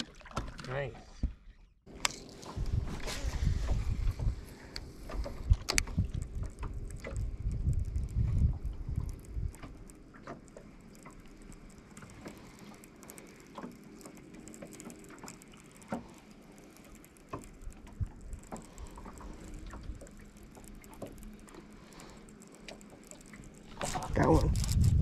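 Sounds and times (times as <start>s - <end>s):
small waves lapping boat hull: 0.0s - 25.0s
faint steady hum: 1.9s - 25.0s.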